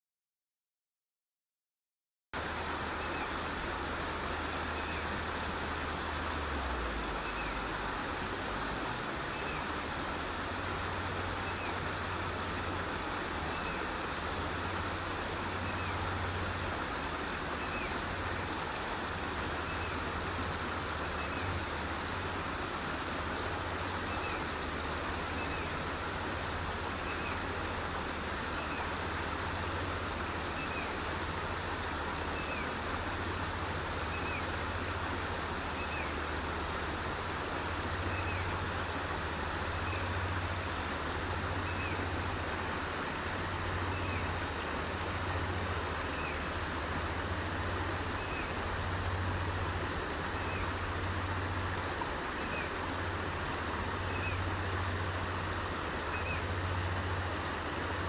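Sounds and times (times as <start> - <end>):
stream flowing: 2.4 - 58.0.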